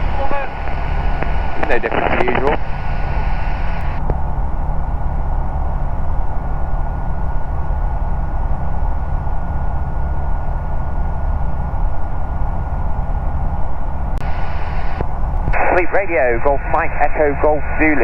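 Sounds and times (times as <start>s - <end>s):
aircraft engine drone: 0.0s - 18.0s
high whine: 0.0s - 18.0s.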